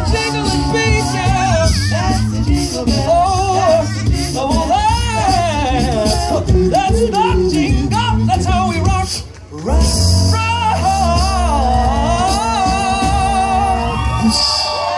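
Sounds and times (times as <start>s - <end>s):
a cappella group singing: 0.0s - 8.2s, 9.7s - 14.2s
deep bass voice: 0.0s - 14.4s.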